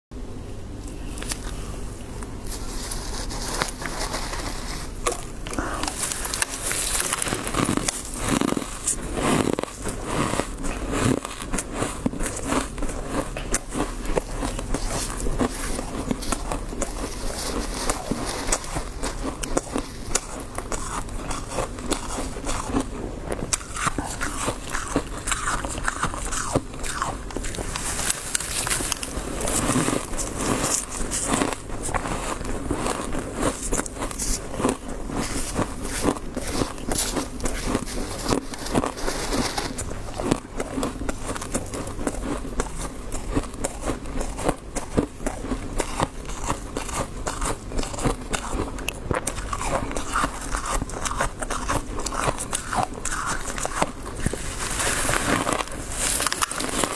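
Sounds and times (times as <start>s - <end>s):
chewing crunchy frost: 0.8s - 56.9s.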